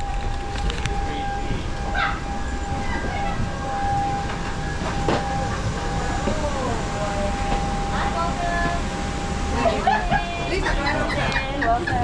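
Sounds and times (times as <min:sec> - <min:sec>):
high-pitched whine: 0:00.0 - 0:12.0
low machinery rumble: 0:00.0 - 0:12.0.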